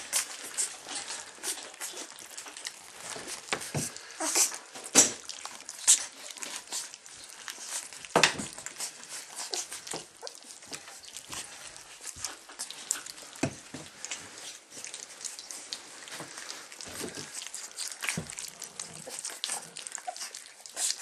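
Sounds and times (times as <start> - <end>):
puppies rustling and scratching: 0.0 - 21.0
puppies scuffling: 0.0 - 21.0.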